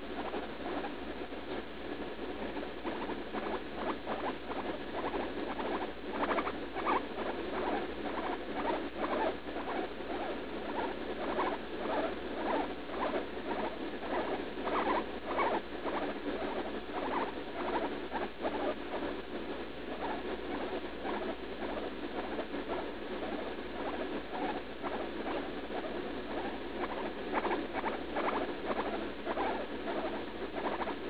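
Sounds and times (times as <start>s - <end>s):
guinea pig squeaking: 0.2s - 0.9s, 2.4s - 19.1s, 19.9s - 31.0s.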